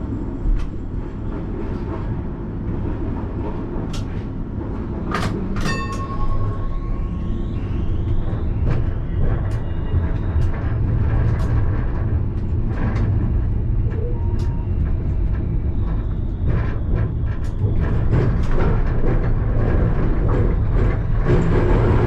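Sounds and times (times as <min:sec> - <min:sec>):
tram rumble: 0:00.0 - 0:22.0
wheels clicking on rails: 0:00.4 - 0:22.0.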